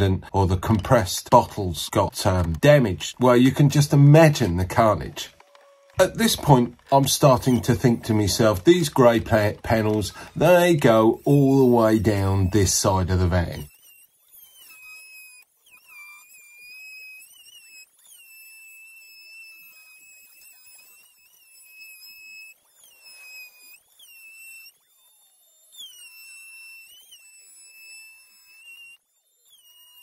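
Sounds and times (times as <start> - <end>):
electric drill whining: 0.0 - 30.0.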